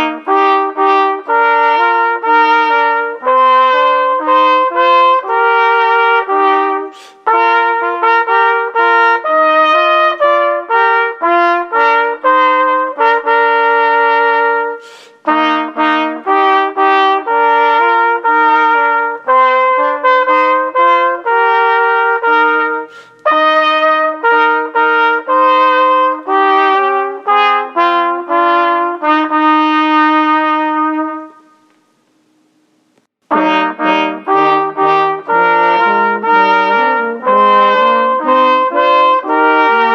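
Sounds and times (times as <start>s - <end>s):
trumpet-led brass music: 0.0s - 31.8s, 33.2s - 39.9s.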